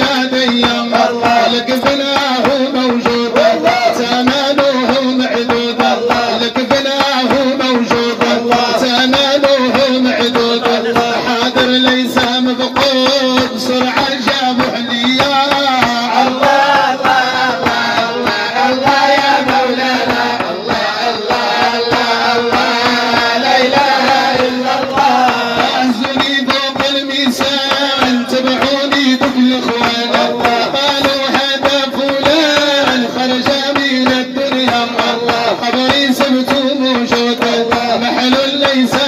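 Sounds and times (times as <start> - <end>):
hand drum beat: 0.0 - 39.0.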